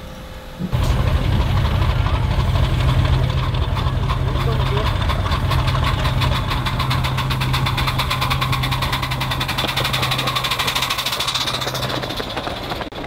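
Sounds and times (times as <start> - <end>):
diesel locomotive idling: 0.6 - 13.0
steam locomotive exhaust beats: 0.6 - 13.0.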